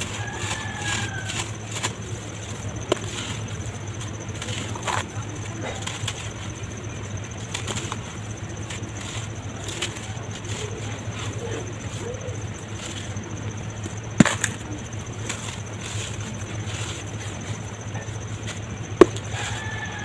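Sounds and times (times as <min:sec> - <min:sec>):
dirt crumbling: 0:00.0 - 0:20.0
steady low hum: 0:00.0 - 0:20.0.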